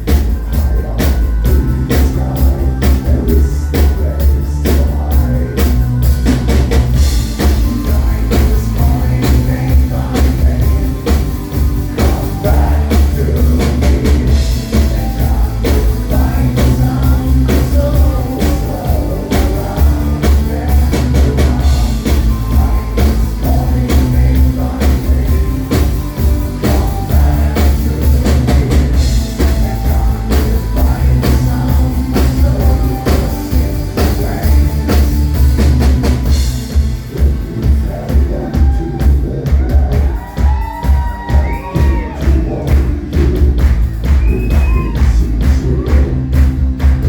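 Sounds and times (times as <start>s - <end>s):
heavy bass line: 0.0s - 47.0s
live band music: 0.0s - 47.0s
person singing: 0.0s - 47.0s
steady drum beat: 0.0s - 47.0s.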